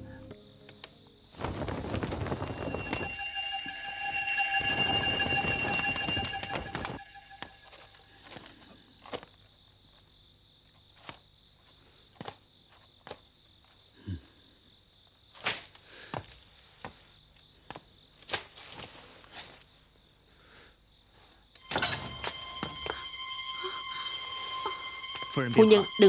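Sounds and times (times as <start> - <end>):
crickets chirping: 0.0 - 18.2, 18.9 - 26.0.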